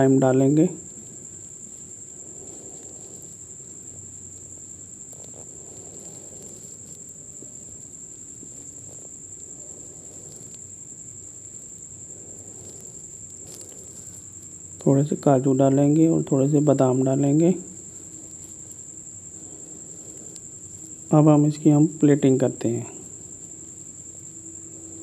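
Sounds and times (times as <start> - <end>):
soft rustling of stirring food: 0.2 - 25.0.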